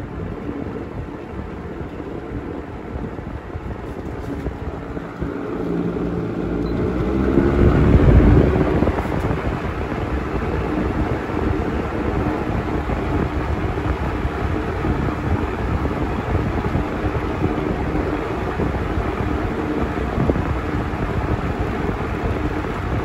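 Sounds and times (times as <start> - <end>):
window fan running: 0.0 - 23.0.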